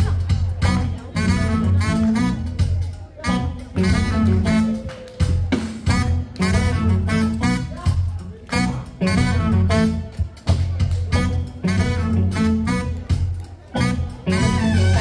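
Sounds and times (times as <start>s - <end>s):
jazz band playing: 0.0s - 15.0s
steady bass: 0.0s - 15.0s.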